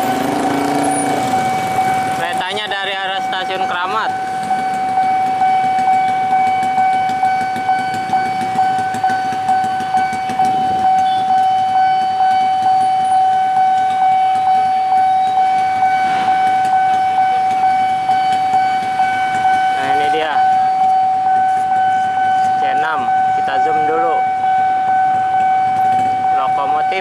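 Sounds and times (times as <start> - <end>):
level crossing warning alarm: 0.0 - 27.0.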